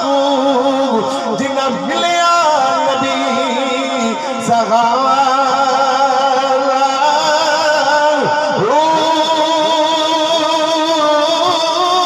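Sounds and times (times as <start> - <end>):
man singing devotional verse: 0.0 - 12.0.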